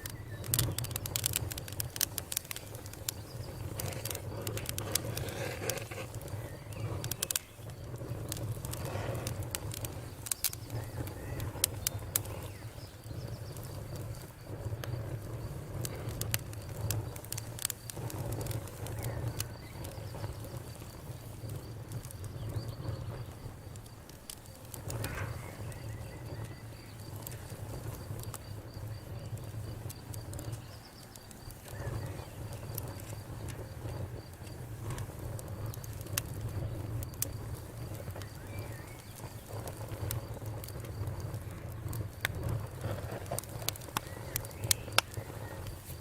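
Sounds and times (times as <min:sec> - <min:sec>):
campfire crackling: 0:00.0 - 0:46.0.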